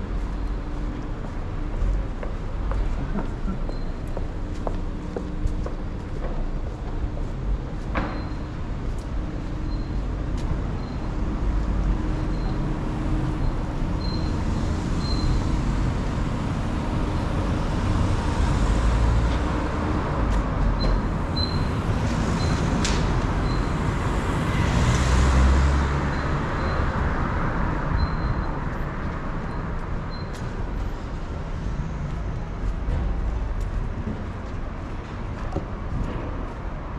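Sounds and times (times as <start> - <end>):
cars passing on street: 0.0 - 36.9.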